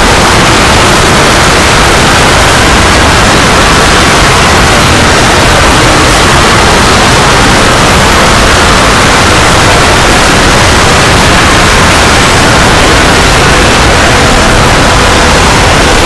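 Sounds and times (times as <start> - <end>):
loud static hiss: 0.0 - 16.0.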